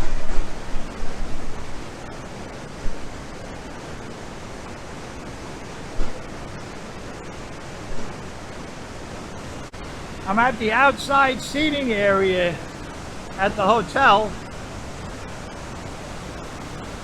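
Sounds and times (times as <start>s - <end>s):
waterfall rushing: 3.3s - 17.0s.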